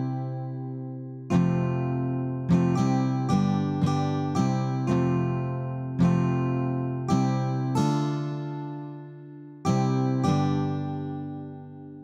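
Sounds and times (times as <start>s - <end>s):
acoustic guitar chord ringing: 0.0s - 12.0s.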